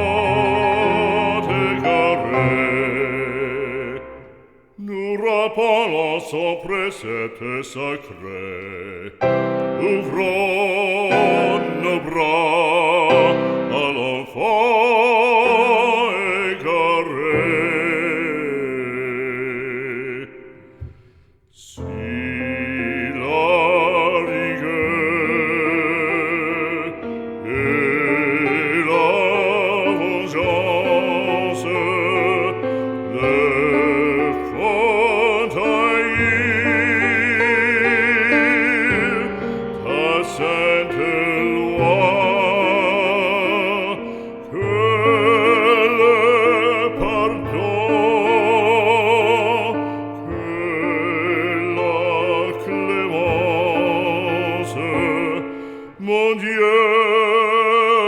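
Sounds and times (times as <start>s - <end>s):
operatic singing with vibrato: 0.0s - 58.0s.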